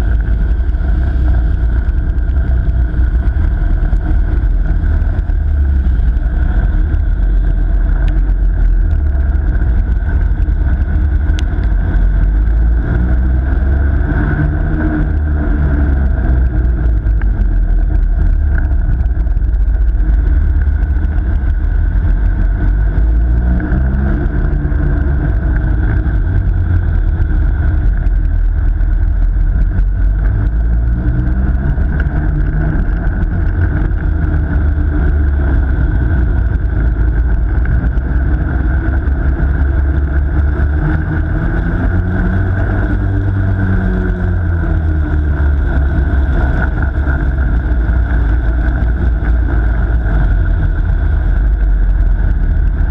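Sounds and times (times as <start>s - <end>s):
loud low rumble: 0.0s - 52.9s.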